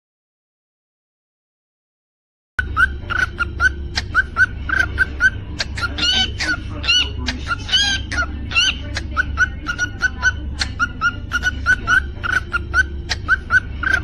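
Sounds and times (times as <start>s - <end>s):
cockatiel chirps: 2.6s - 14.0s.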